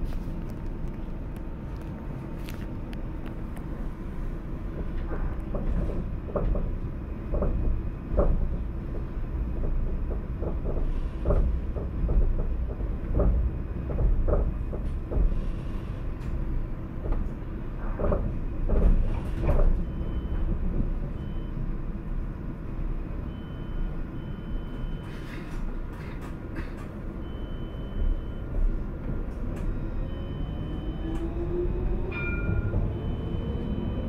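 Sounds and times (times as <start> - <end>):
knocks and clunks from tram: 0.0 - 23.3, 23.9 - 34.0
tram rumbling on track: 0.0 - 34.0.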